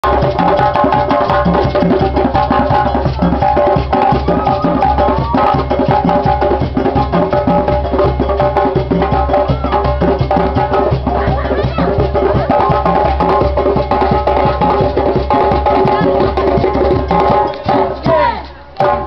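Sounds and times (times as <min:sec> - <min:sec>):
drums: 0:00.0 - 0:19.0.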